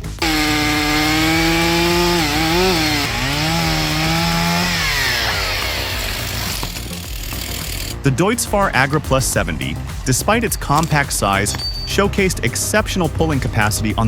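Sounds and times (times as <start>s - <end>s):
machine cutting wood: 0.0s - 13.6s.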